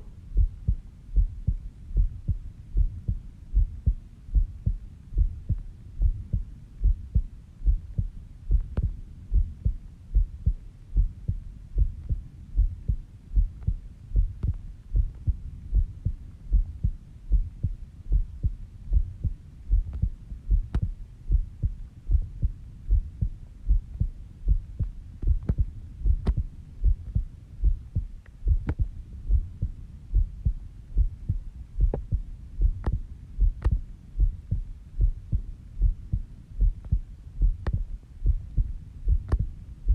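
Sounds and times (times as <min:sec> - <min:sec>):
heartbeat: 0:00.0 - 0:39.9.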